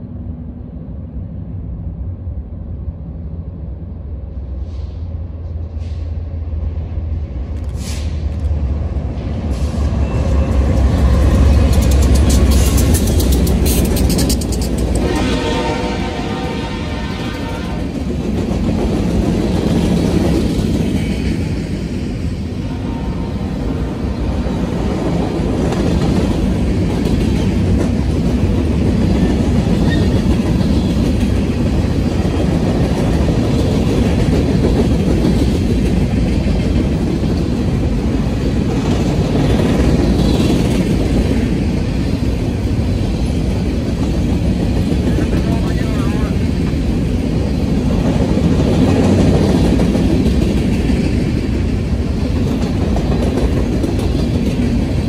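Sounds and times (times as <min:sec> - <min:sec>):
freight train rolling past: 0:00.0 - 0:55.0
steel wheels rattling on rails: 0:07.6 - 0:55.0.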